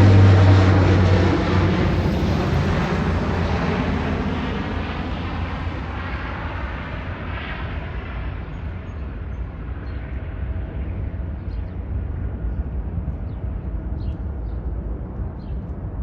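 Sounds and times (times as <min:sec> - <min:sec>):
jet airliner engine rumble: 0:00.0 - 0:16.0.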